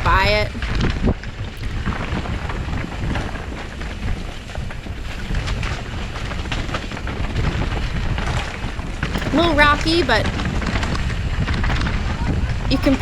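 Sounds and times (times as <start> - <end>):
wind buffeting microphone: 0.0 - 13.0
tyre rumble on dirt trail: 0.7 - 9.2, 10.3 - 12.7.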